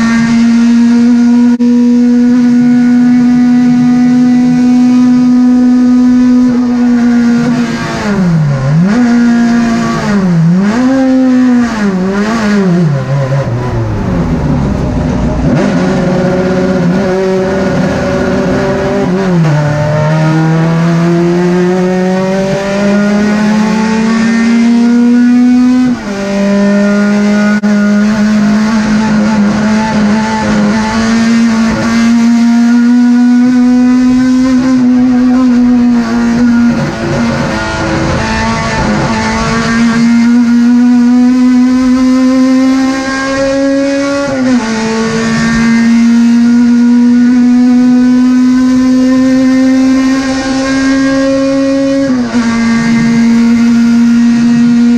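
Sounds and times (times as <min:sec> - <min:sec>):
race car engine at high revs: 0:00.0 - 0:54.9.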